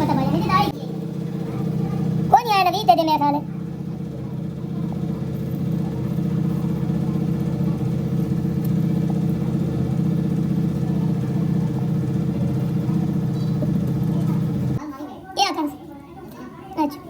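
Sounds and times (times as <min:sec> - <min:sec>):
engine idling with fast chug: 0:00.0 - 0:14.8.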